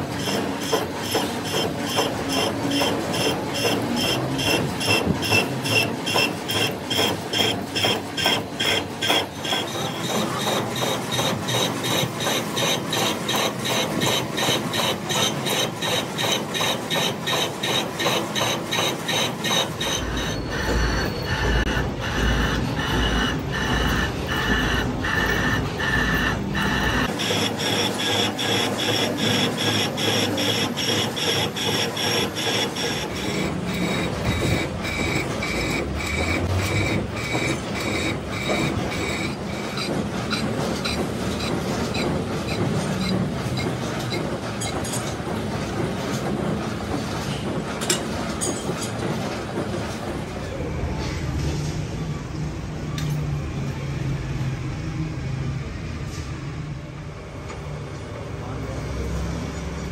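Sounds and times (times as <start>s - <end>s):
machine tool knocking: 0.0s - 49.8s.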